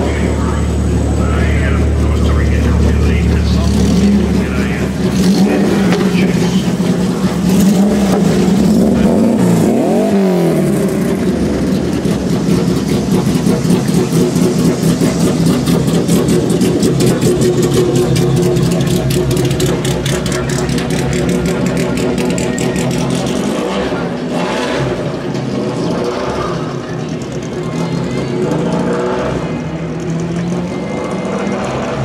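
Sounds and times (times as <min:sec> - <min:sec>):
engine revving: 0:00.0 - 0:32.0
racing car engines idling: 0:00.0 - 0:32.0.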